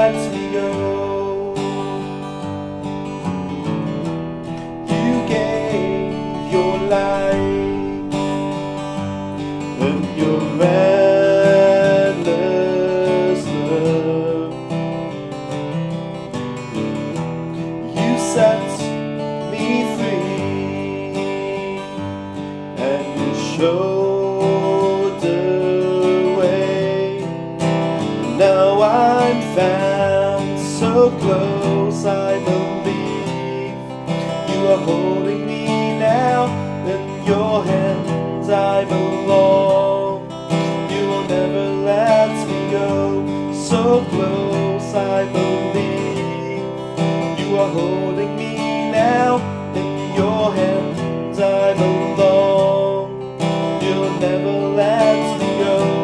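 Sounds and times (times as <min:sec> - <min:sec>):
man singing: 0:00.0 - 0:15.8, 0:16.6 - 0:56.0
acoustic guitar ballad: 0:00.0 - 0:56.0.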